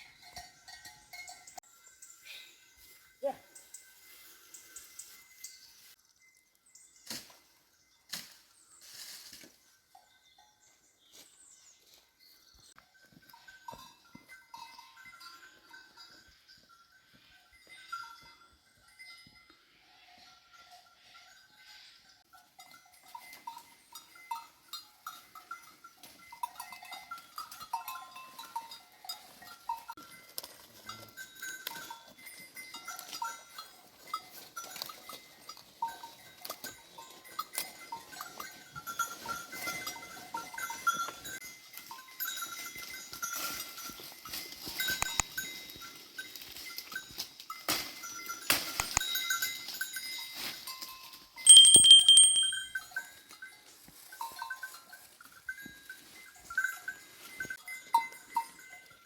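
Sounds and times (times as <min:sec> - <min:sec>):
sheep bells clinking: 0:00.0 - 0:59.0.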